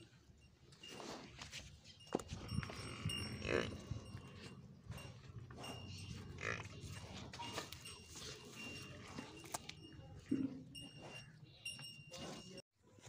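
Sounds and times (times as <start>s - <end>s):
buffalo calf chewing fodder: 0.0s - 13.0s.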